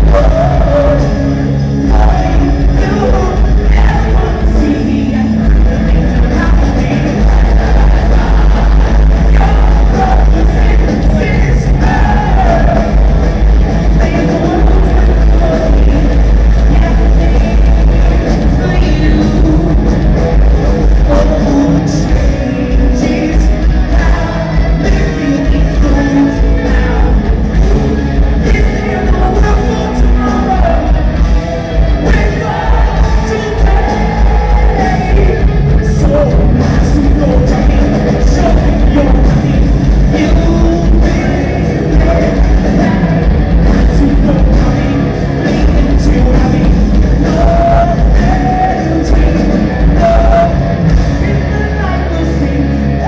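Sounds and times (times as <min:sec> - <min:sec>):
live rock band with singer: 0:00.0 - 0:53.0.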